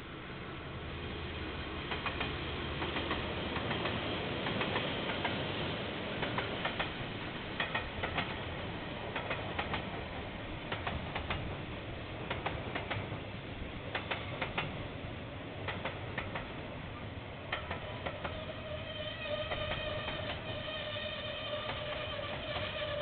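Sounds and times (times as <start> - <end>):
train wheels clicking over rail joints: 1.7 - 23.0.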